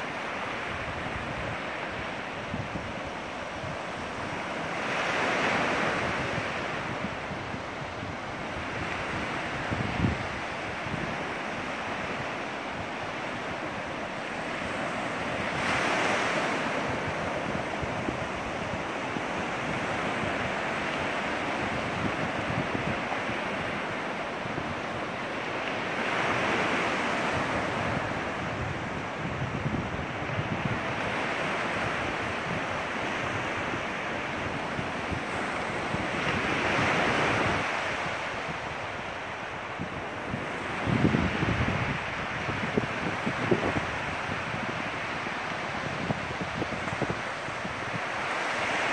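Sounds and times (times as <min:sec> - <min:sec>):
surf washing onto beach: 0:00.0 - 0:48.9
wind buffeting microphone: 0:00.0 - 0:48.9.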